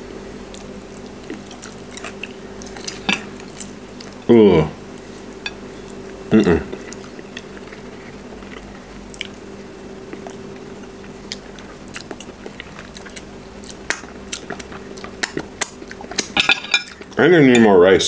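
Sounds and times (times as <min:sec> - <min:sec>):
steady low hum: 0:00.0 - 0:18.0
person chewing food: 0:00.5 - 0:04.3, 0:04.9 - 0:17.2.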